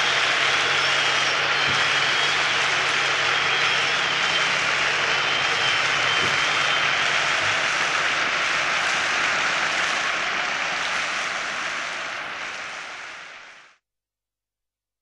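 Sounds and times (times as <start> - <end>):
audience applause: 0.0 - 13.8.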